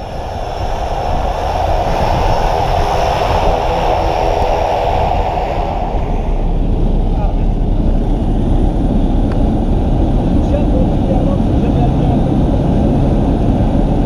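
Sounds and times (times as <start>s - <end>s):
plane engine and propeller running: 0.0s - 14.0s.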